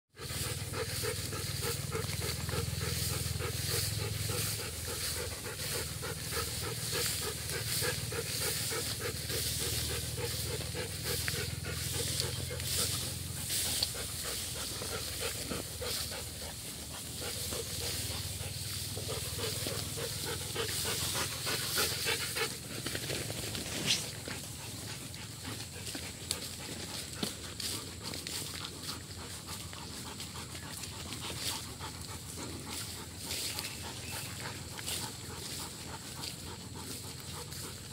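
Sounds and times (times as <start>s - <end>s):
dog panting: 0.2s - 37.9s
grass rustling: 0.2s - 37.9s.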